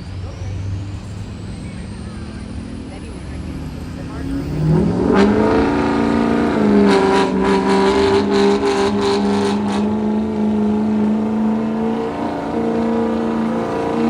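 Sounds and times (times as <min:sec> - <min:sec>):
truck engine running loud: 0:00.0 - 0:14.0.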